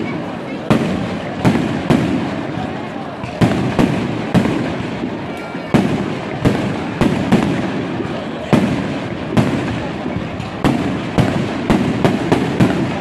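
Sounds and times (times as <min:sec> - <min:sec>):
fireworks bangs: 0:00.0 - 0:13.0
fireworks crackle: 0:00.0 - 0:13.0.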